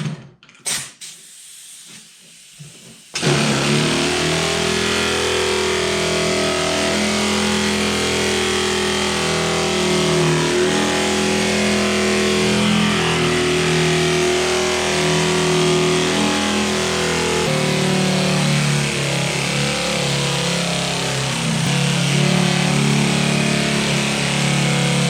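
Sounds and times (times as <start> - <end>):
steady bass line: 3.2 - 25.0
sustained chords: 3.2 - 25.0.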